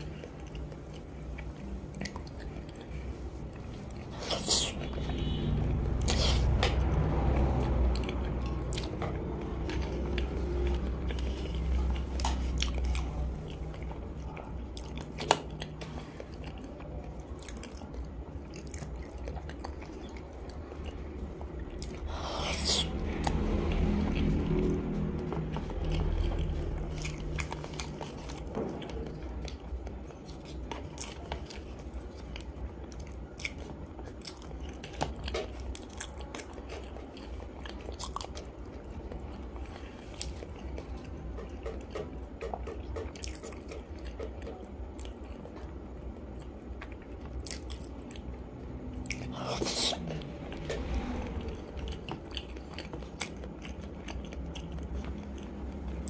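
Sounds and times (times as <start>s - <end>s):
soft wet chewing: 0.0s - 56.0s.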